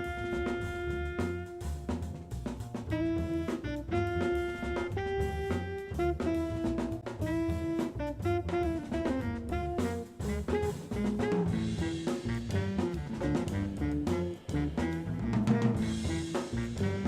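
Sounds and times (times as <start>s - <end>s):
drums: 0.0s - 17.0s
jazz melody of held notes: 0.0s - 17.0s
walking bass: 0.0s - 17.0s.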